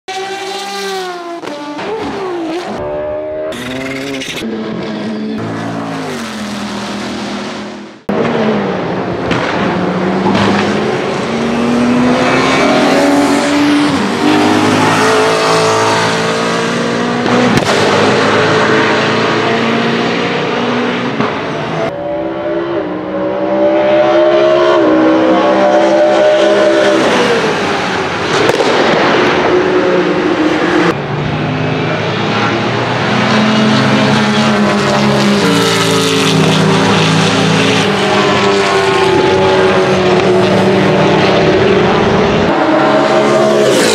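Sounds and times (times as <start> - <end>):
race car engine at high revs: 0.1 - 43.9.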